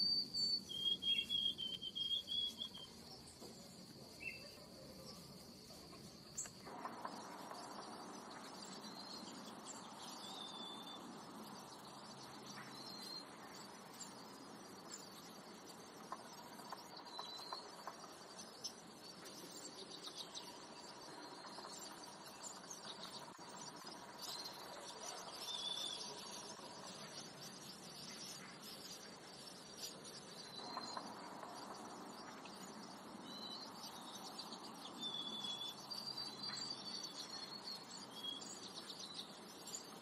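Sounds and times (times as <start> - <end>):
bird chirps: 0.0 - 40.0
high insect drone: 0.0 - 40.0.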